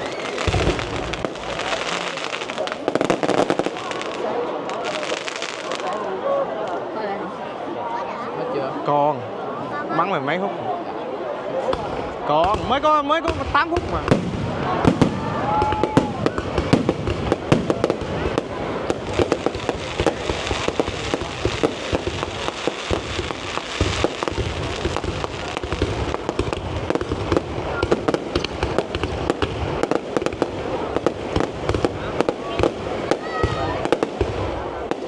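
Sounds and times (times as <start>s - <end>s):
fireworks bangs and crackles: 0.0s - 6.9s, 11.6s - 35.0s.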